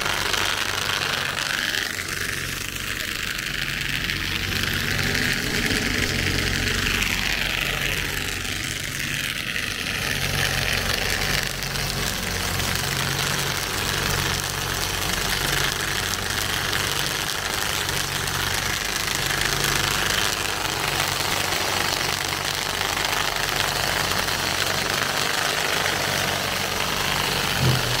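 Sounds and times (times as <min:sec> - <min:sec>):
tractor engine running: 0:00.0 - 0:28.0
weeder rotor droning: 0:00.0 - 0:28.0.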